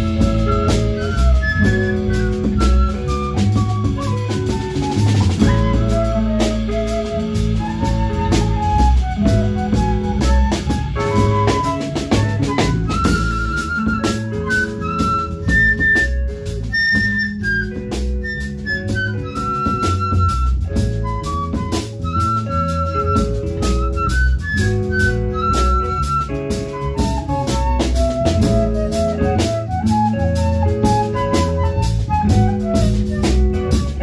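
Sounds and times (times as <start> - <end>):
drum kit keeping time: 0.0 - 34.0
flute-like melody with vibrato: 0.0 - 34.0
walking bass line: 0.0 - 34.0.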